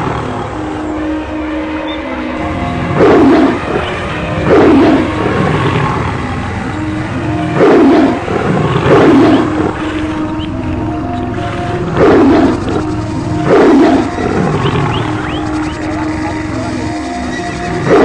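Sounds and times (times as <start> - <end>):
steady held tones: 0.0 - 18.0
deep animal roars: 2.4 - 18.0.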